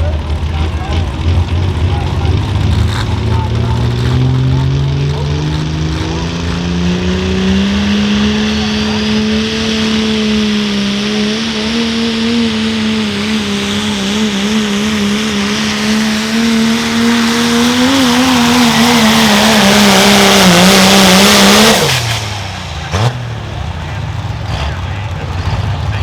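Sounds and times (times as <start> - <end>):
diesel truck engine at high revs: 0.0 - 26.0.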